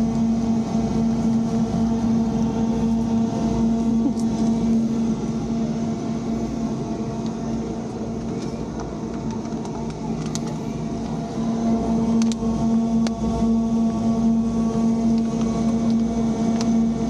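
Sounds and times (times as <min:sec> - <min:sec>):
refrigerator fans and compressor hum: 0:00.0 - 0:17.0.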